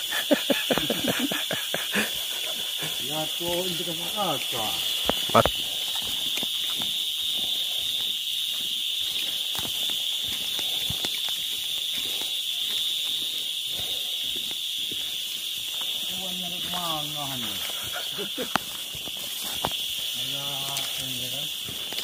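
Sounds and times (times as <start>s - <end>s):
footsteps on muddy trail: 0.0s - 22.0s
insects droning: 0.0s - 22.0s.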